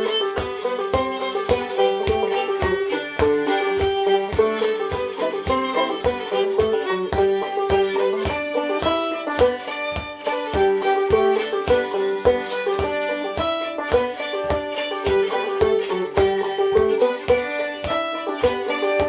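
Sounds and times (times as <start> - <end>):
banjo strokes: 0.0 - 19.0
fiddle melody: 0.0 - 19.0.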